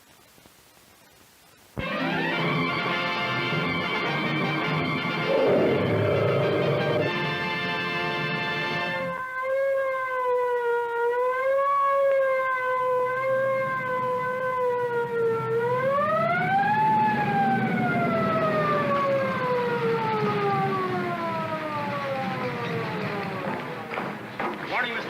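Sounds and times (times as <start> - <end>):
siren-like wailing tone: 1.8 - 23.5.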